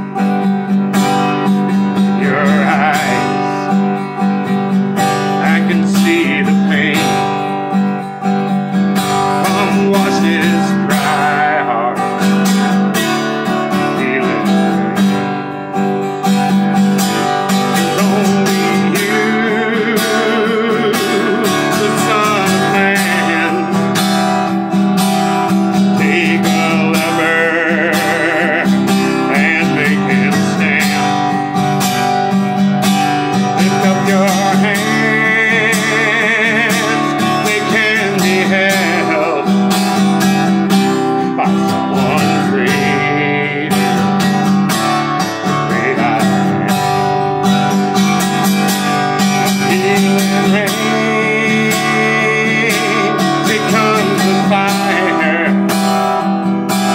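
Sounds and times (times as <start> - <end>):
man singing: 0.0 - 15.5, 16.2 - 56.9
acoustic guitar strumming: 0.0 - 56.9.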